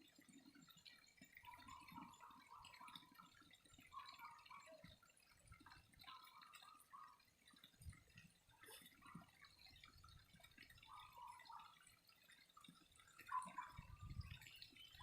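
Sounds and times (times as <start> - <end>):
faint trickling water: 0.0 - 15.0
water drips and splashes: 0.0 - 15.0.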